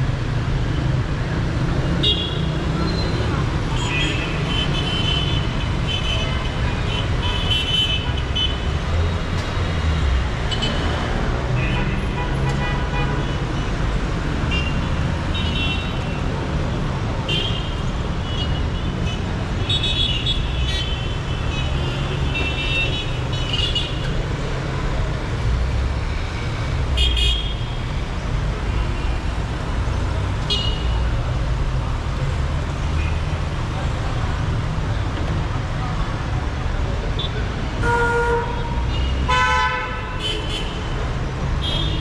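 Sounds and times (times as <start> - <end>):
traffic rumble: 0.0 - 42.0.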